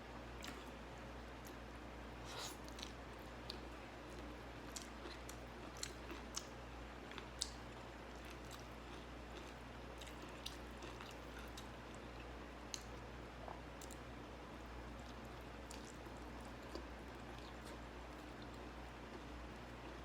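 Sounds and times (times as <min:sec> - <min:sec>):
faint steady hum: 0:00.0 - 0:20.0
person chewing food: 0:00.4 - 0:00.8, 0:02.2 - 0:20.0.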